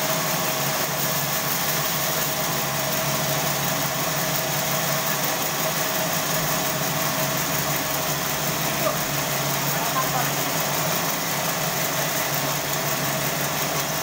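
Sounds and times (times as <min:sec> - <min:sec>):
sawmill machinery motor drone: 0:00.0 - 0:14.0.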